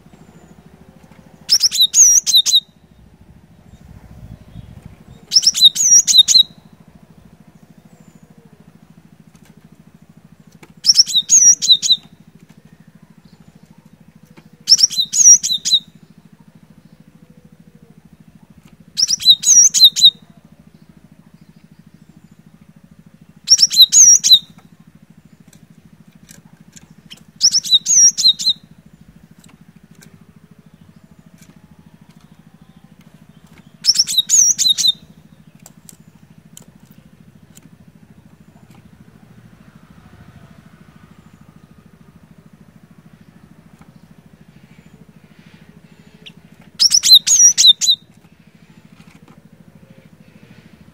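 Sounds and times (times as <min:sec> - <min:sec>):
faint low hum: 0:00.0 - 0:50.9.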